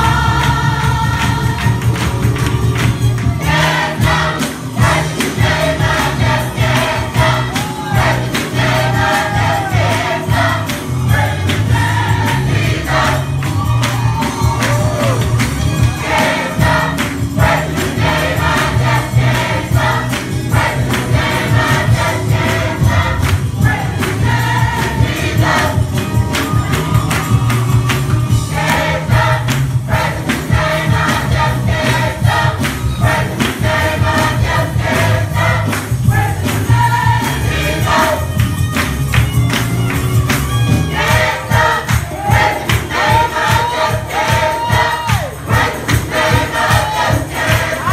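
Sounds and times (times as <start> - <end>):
bass: 0.0 - 47.9
gospel choir singing: 0.0 - 47.9
keyboard: 0.0 - 47.9
steady percussive beat: 0.0 - 47.9.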